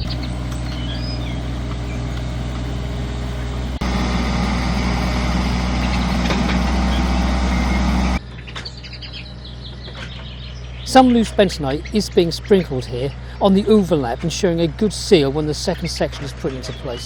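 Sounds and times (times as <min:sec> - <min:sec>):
earth-moving machine engine running: 0:00.0 - 0:17.0
faint birds chirping: 0:00.0 - 0:17.0.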